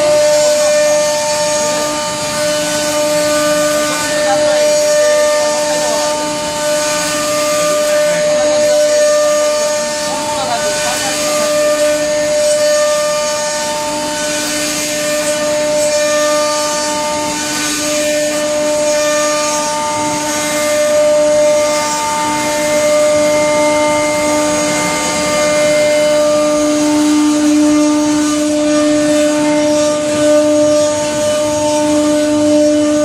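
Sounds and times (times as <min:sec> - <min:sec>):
router spindle whine: 0:00.0 - 0:33.0.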